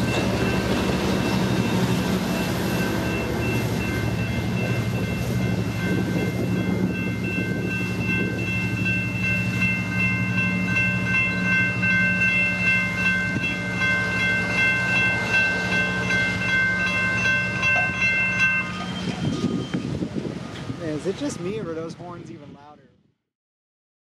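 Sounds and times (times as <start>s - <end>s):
crossing warning bell ringing: 0.0s - 22.0s
diesel locomotive running: 0.0s - 22.8s.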